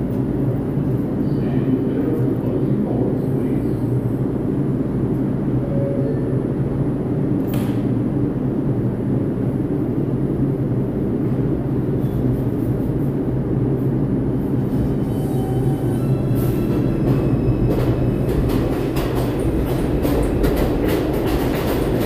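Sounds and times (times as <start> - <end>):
subway train equipment humming: 0.0 - 22.0.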